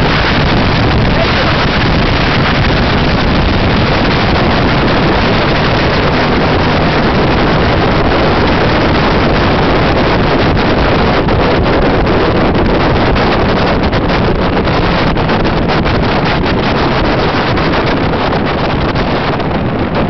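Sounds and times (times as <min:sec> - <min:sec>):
water rushing: 0:00.0 - 0:19.1
powerboat engine running: 0:00.0 - 0:20.0
wind on microphone: 0:00.0 - 0:20.0.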